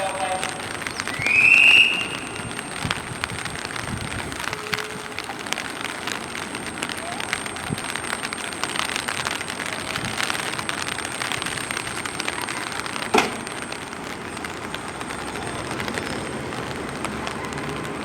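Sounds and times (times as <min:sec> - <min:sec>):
train wheels rattling on rail: 0:00.0 - 0:18.0.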